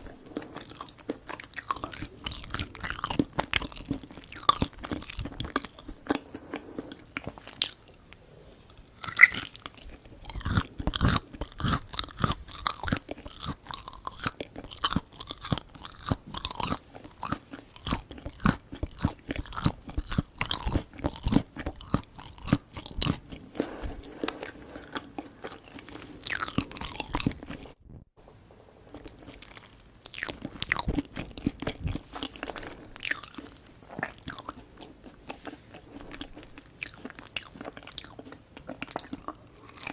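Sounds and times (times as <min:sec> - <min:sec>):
close chewing with wet clicks: 0:00.0 - 0:08.0, 0:09.0 - 0:23.4, 0:29.1 - 0:39.9.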